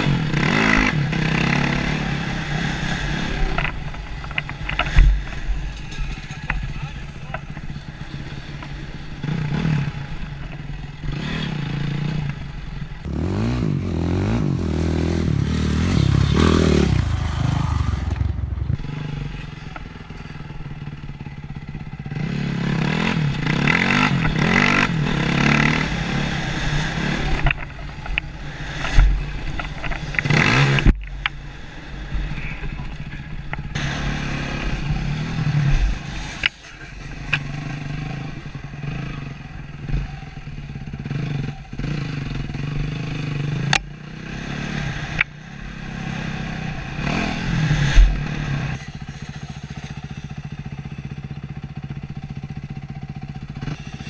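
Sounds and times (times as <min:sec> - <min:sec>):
dirt bike engine revving: 0:00.0 - 0:05.5, 0:07.5 - 0:30.9, 0:33.7 - 0:54.0.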